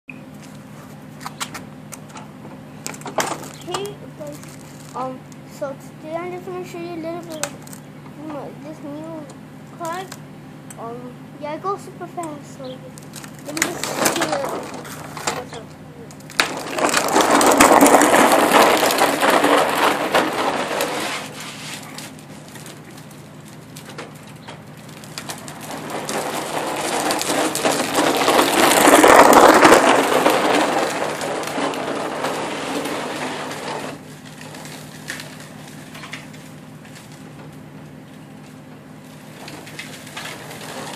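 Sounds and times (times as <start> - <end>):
toy car wheels crunching: 0.4 - 10.2, 11.5 - 40.9.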